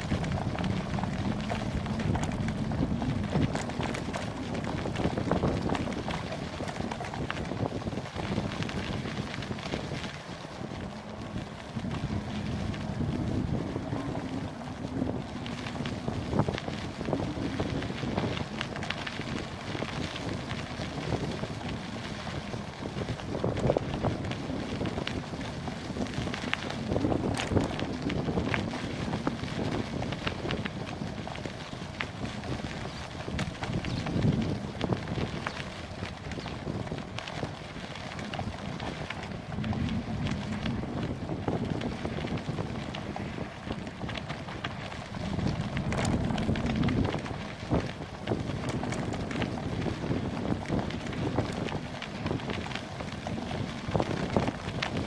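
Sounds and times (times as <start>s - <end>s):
bicycle clicks and rattles: 0.0s - 55.0s
wind buffeting microphone: 0.0s - 55.0s.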